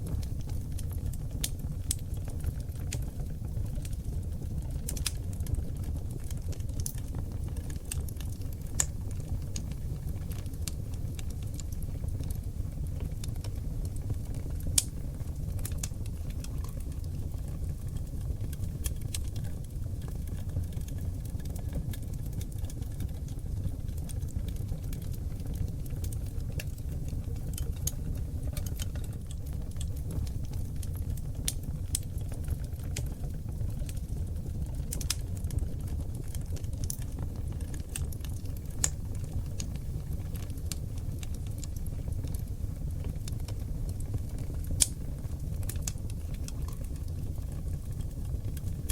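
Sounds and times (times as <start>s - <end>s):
fire flames rumbling: 0.0s - 48.9s
wood fire crackles and pops: 0.0s - 48.9s.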